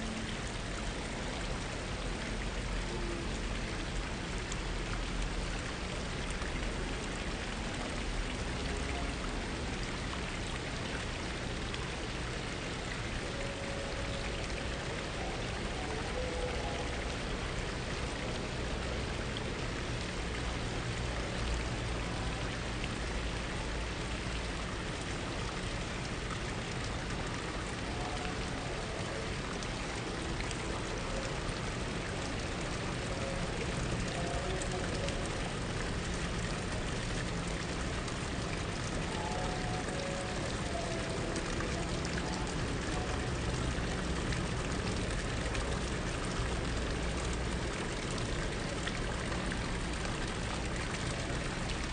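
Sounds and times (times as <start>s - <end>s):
fountain water splashing: 0.0s - 51.9s.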